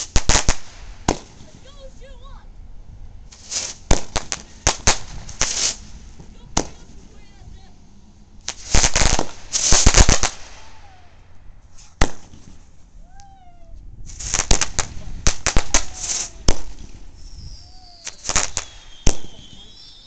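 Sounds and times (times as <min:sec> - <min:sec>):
fireworks bangs and crackles: 0:00.0 - 0:01.9, 0:03.3 - 0:07.8, 0:08.4 - 0:12.8, 0:14.0 - 0:20.0.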